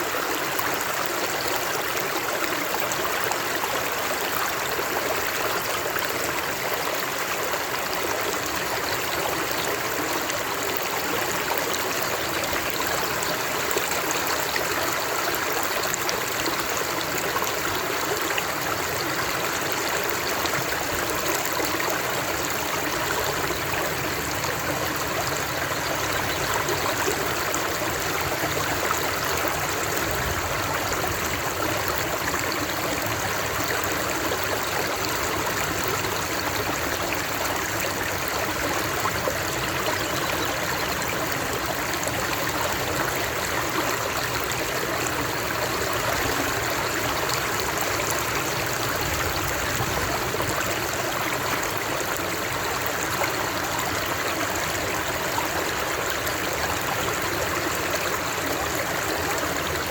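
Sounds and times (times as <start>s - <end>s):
water flowing over stones: 0.0s - 59.9s.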